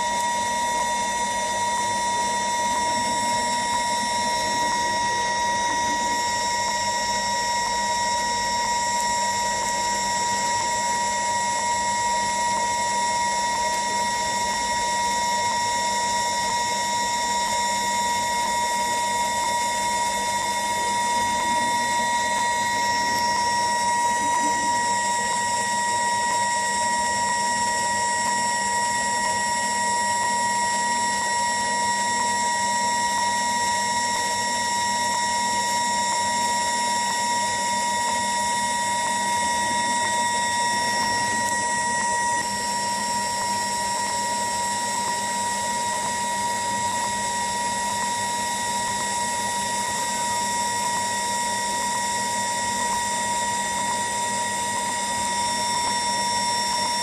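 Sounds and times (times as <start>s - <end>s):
soldering machine whine: 0.0s - 57.0s.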